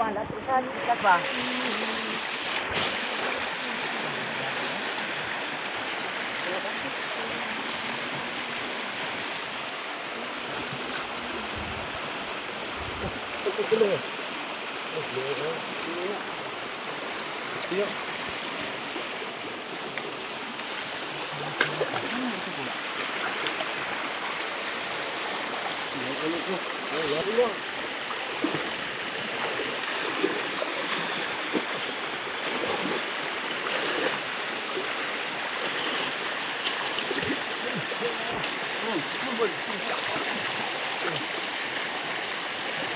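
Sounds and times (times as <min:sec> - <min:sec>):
creek water flowing: 0:00.0 - 0:42.9
shallow stream running: 0:00.0 - 0:42.9.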